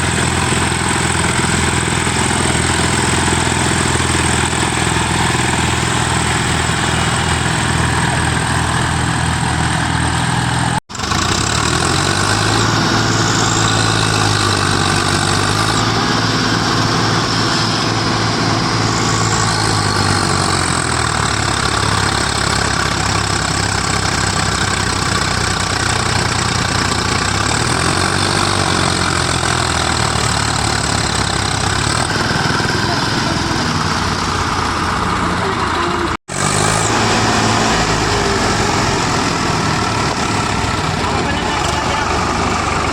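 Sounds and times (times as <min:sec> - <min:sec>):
tractor engine revving: 0:00.0 - 0:42.9.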